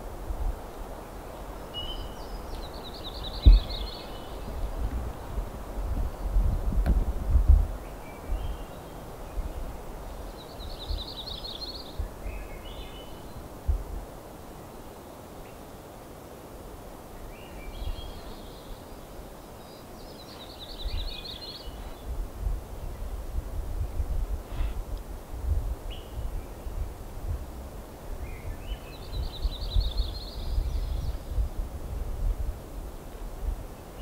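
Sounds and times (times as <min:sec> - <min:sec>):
songbird singing: 0:00.0 - 0:25.1, 0:25.7 - 0:31.7, 0:32.3 - 0:34.0.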